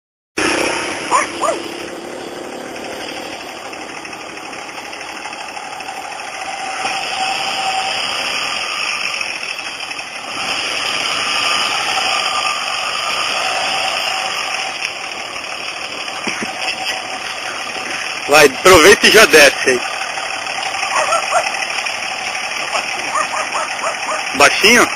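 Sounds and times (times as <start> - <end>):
pickup truck engine driving through mud: 0.4 - 24.9.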